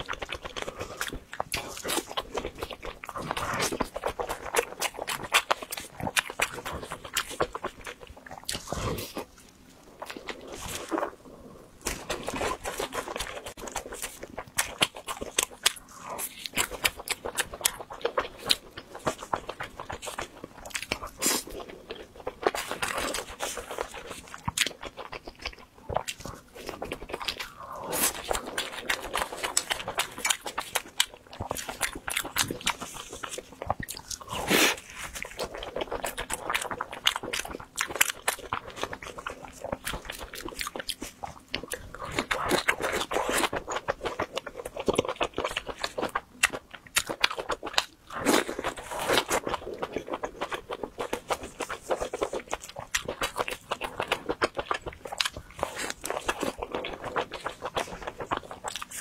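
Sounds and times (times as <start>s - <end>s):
crunchy chewing and biting: 0.0s - 11.2s, 11.8s - 59.0s.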